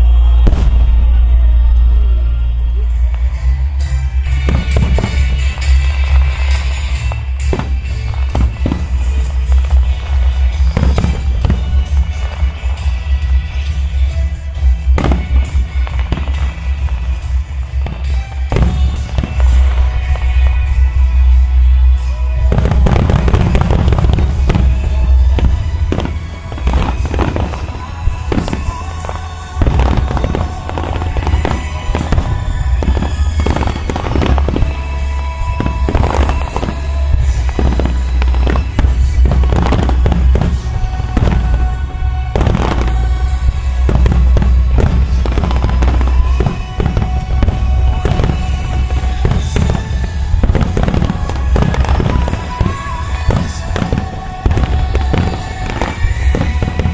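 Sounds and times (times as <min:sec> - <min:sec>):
fireworks bursting: 0:00.0 - 0:56.9
music with heavy bass: 0:00.0 - 0:56.9.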